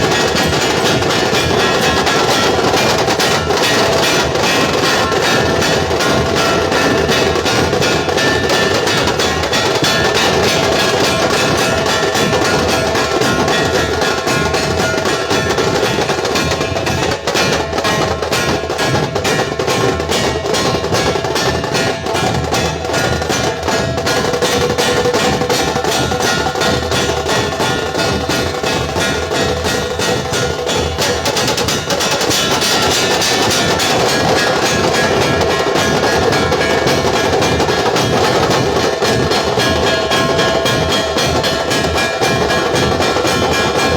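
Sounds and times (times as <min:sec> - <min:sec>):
drum troupe playing loudly: 0:00.0 - 0:43.9.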